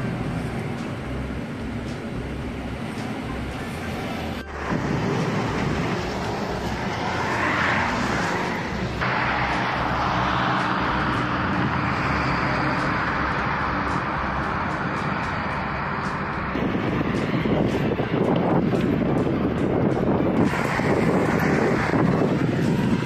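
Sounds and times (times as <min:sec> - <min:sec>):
bus engine and road noise: 0:00.0 - 0:23.0
highway traffic noise: 0:00.0 - 0:23.0.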